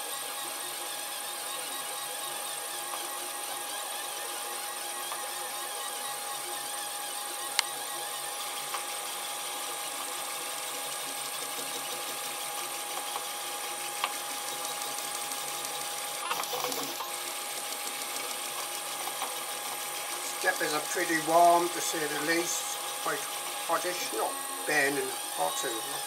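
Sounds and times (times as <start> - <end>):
stepper motors whirring: 0.0 - 26.0.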